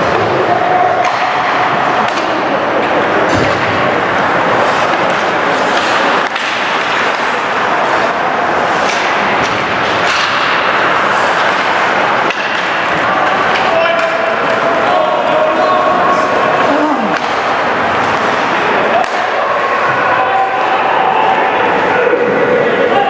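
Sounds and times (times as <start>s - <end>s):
hockey sticks and puck clacking: 0.0s - 22.4s
ice rink crowd noise: 0.0s - 23.0s.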